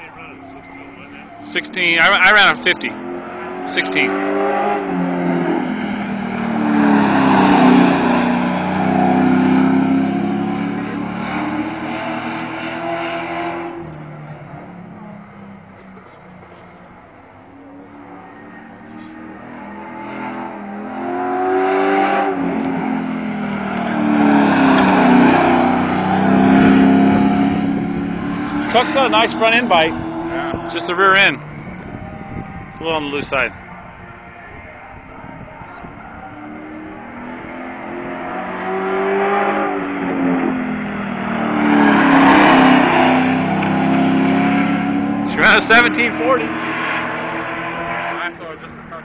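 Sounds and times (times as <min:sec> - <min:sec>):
race car engine approaching: 0:00.0 - 0:49.0.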